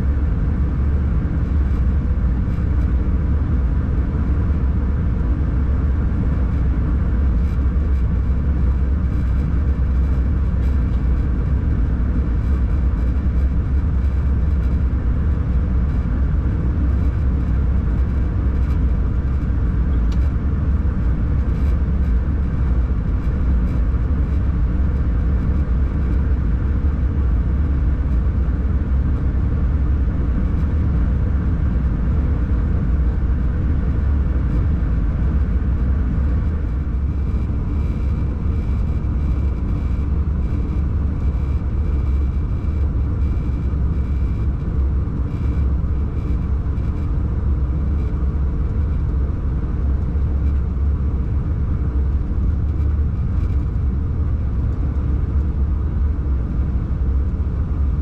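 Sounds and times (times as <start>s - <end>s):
low rumble inside locomotive cab: 0.0s - 58.0s.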